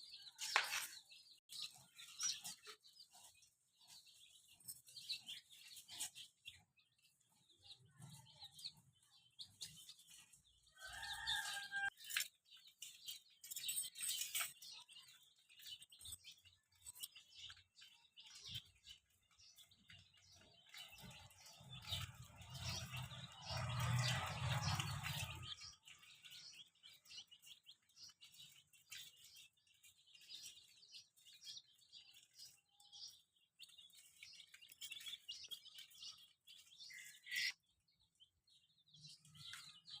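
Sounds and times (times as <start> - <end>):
baby chicks peeping: 0.0 - 40.0.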